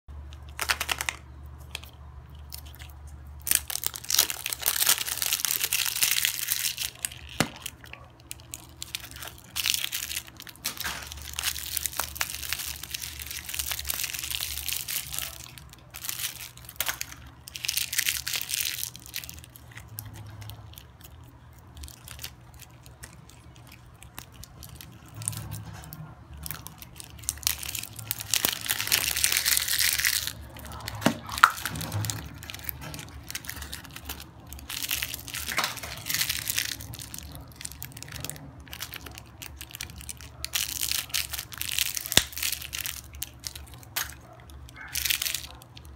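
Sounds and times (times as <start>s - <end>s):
plastic wrappers crinkling: 0.2s - 45.9s.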